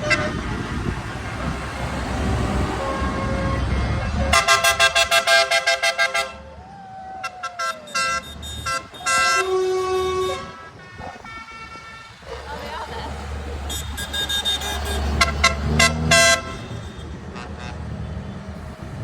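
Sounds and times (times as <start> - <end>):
tractor horn beeps: 0.0 - 0.9, 2.2 - 6.4, 7.5 - 18.4
tractor engine rumble: 0.0 - 19.0.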